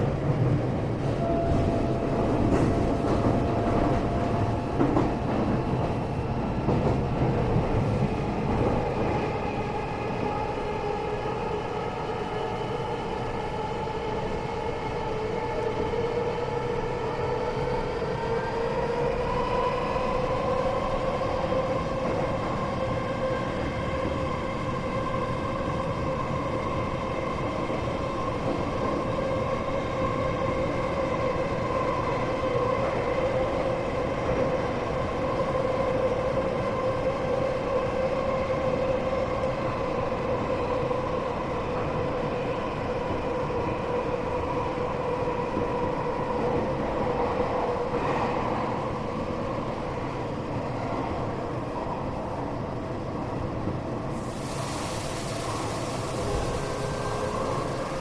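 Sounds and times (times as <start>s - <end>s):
wheels rumbling on rail: 0.0s - 12.2s, 15.3s - 58.0s.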